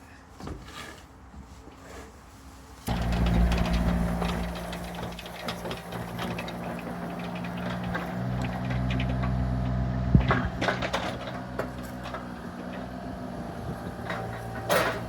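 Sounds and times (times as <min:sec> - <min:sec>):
clanks and rattles: 0:02.9 - 0:15.0
engine running: 0:02.9 - 0:15.0.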